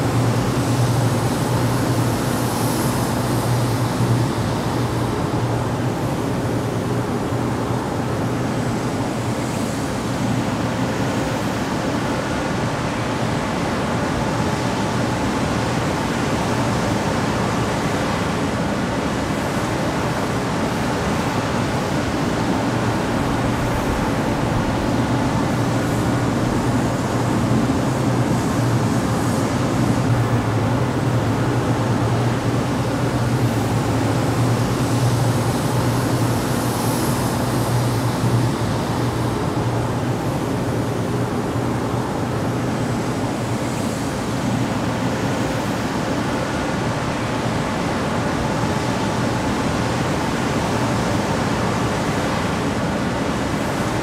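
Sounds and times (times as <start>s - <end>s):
exhaust fan running: 0.0s - 54.0s.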